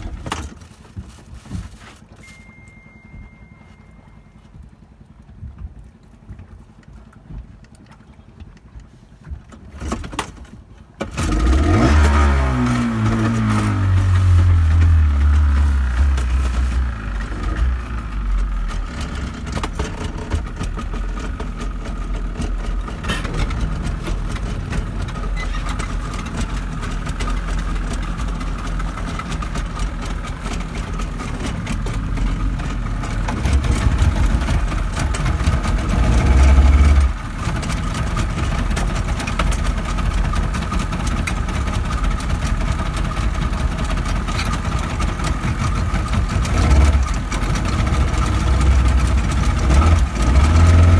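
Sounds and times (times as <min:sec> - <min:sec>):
outboard motors idling: 0:00.0 - 0:50.9.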